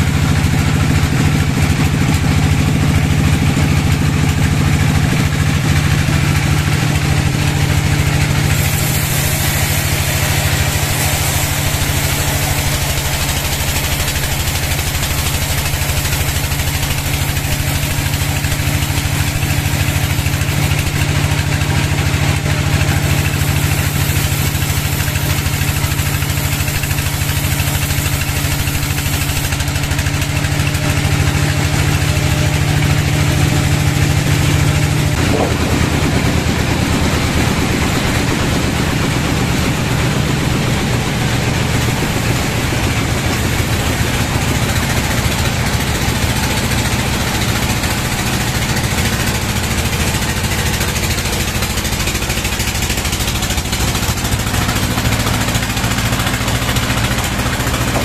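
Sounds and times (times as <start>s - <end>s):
band sawmill droning: 0.0s - 58.0s
saw blade hissing through wood: 0.2s - 58.0s.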